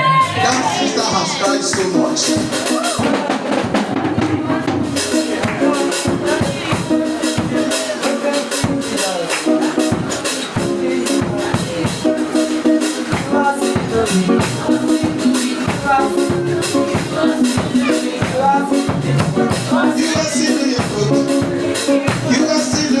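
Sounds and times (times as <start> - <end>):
steady drum beat: 0.0 - 23.0
sustained keyboard notes: 0.0 - 23.0.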